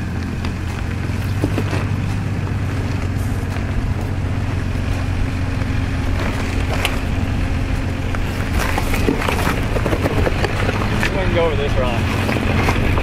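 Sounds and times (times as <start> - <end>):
truck engine running low: 0.0 - 13.0.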